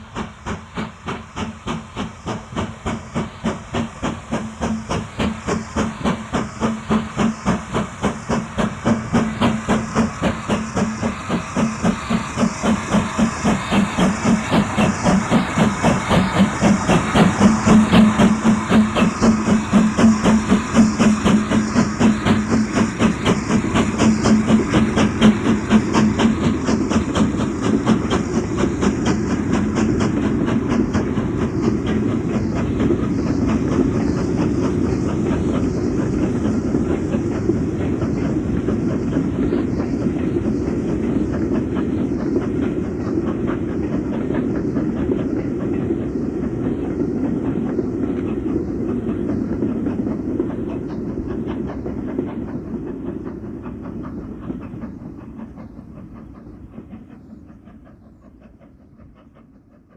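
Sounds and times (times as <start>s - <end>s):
rumble of train wheels: 0.0s - 59.9s
steam locomotive chuffing: 0.0s - 59.9s.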